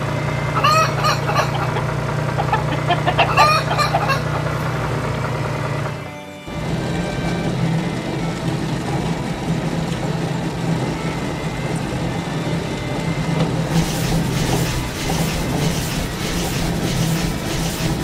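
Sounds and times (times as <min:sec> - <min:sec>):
conveyor machine humming: 0:00.0 - 0:18.0
rhythmic rattling clatter: 0:00.0 - 0:18.0.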